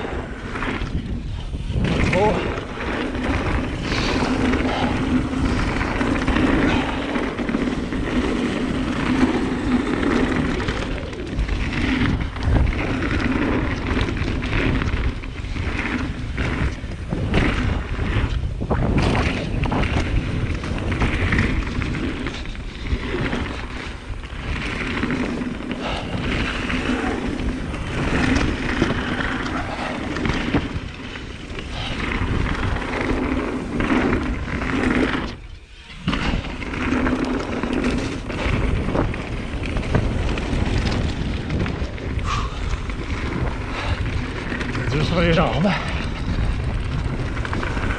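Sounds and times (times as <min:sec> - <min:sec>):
bike knocks and rattles over bumps: 0:00.0 - 0:47.9
bike tyres rumbling on dirt trail: 0:00.0 - 0:47.9
wind buffeting microphone: 0:00.0 - 0:47.9.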